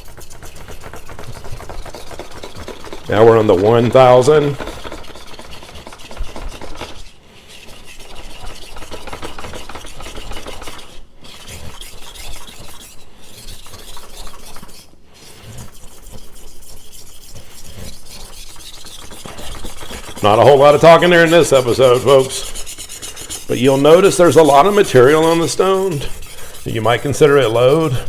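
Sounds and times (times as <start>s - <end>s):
knife scraping on whetstone: 0.0s - 28.0s.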